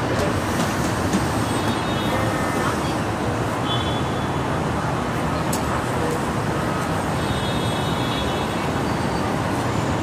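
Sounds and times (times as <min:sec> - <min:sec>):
rumble of street traffic: 0:00.0 - 0:10.0.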